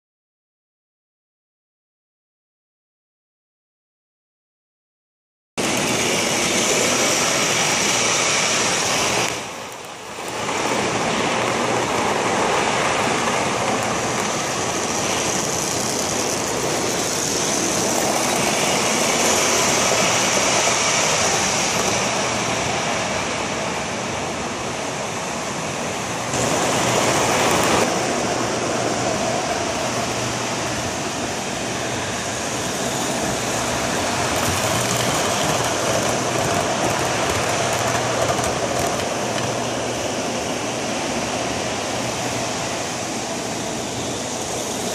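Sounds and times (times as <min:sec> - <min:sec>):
model train wheels on rails: 0:05.6 - 0:44.9.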